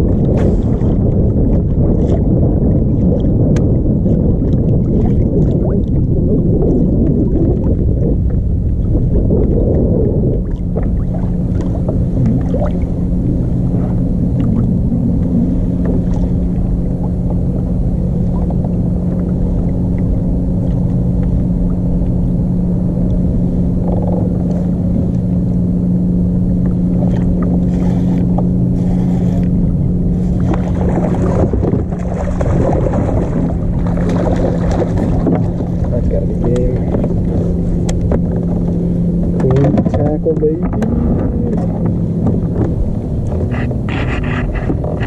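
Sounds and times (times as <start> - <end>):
motor hum: 0.0 - 45.0
rushing water: 0.0 - 45.0.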